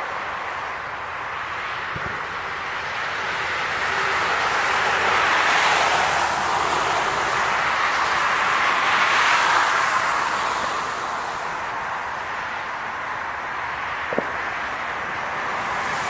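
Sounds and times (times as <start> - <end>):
freeway traffic tyre and road noise: 0.0 - 16.0.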